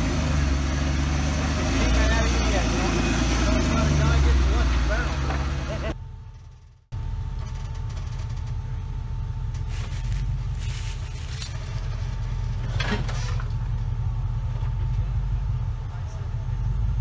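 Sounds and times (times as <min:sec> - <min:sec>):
off-road engine rumbling: 0:00.0 - 0:17.0.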